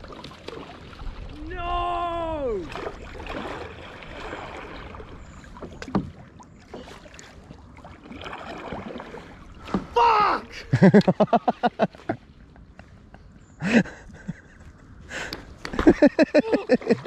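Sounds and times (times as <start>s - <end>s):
paddle swishing through water: 0.0s - 17.0s
water lapping at hull: 0.0s - 17.0s.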